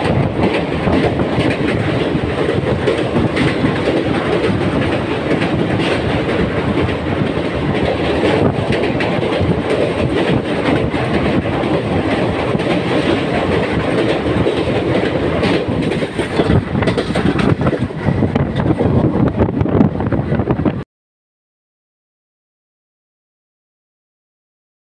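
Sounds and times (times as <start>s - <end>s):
clickety-clack over rail joints: 0.0s - 20.8s
train wheels rumbling on rails: 0.0s - 20.8s.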